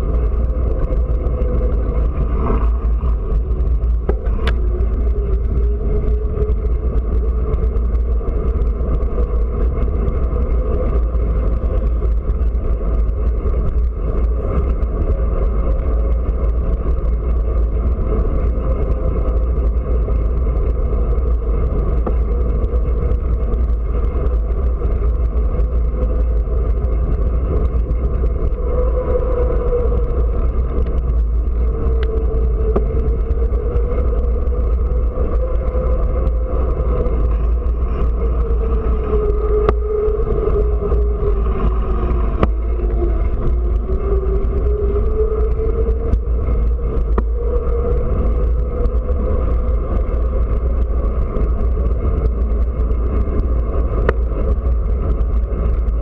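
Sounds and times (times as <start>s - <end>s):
traffic road noise: 0.0s - 55.9s
steady wavering hum: 0.0s - 56.0s
wind buffeting microphone: 0.0s - 56.0s.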